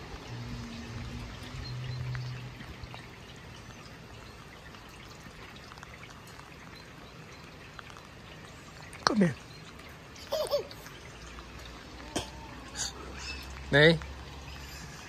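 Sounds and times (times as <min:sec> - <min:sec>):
light rain falling: 0:00.0 - 0:15.0
water trickling and dripping: 0:00.0 - 0:15.0.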